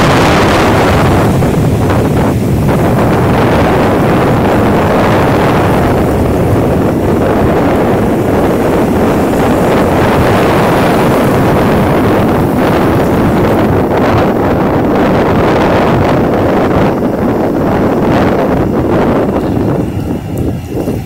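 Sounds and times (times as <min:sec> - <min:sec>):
surf breaking on sand: 0:00.0 - 0:21.0
wind rumbling on microphone: 0:00.0 - 0:21.0.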